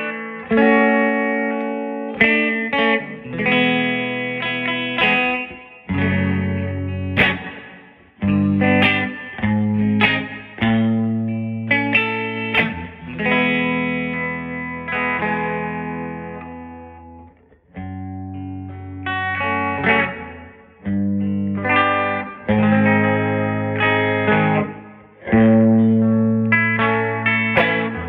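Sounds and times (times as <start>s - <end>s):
overdriven electric guitar chords: 0.0s - 28.0s.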